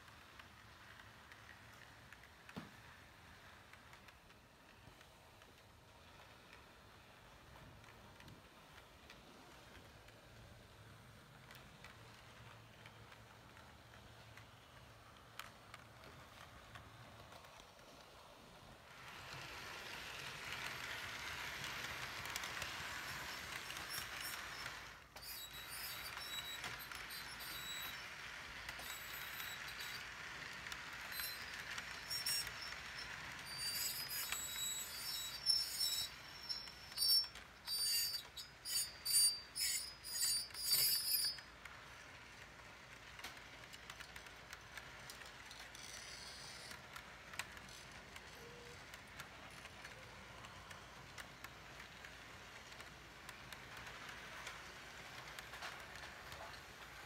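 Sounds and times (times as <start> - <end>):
model train rolling hiss: 0.0 - 57.0.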